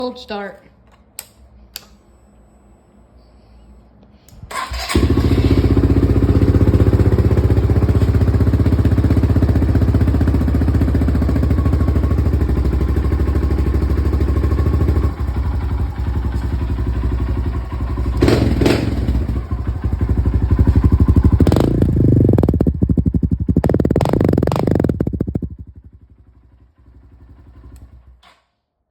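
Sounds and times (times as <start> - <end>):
dirt bike engine idling and revving: 4.7 - 28.2.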